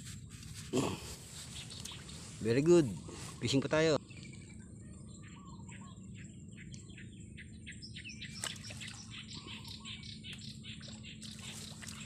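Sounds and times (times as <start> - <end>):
low outdoor background noise: 0.0 - 12.0
small bird chirping: 1.4 - 12.0.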